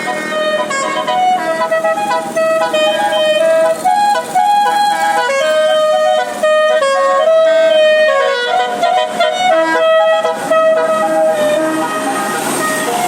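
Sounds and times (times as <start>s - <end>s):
musical air horn playing tune: 0.0s - 13.0s.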